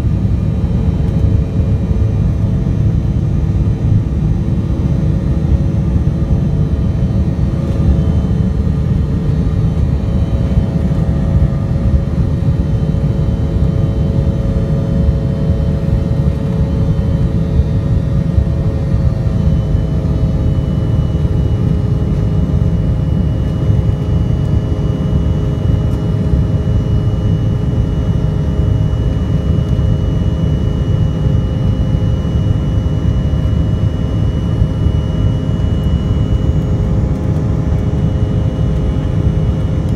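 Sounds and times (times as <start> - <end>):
aircraft cabin engine roar: 0.0 - 39.9
faint high whine: 0.0 - 39.9.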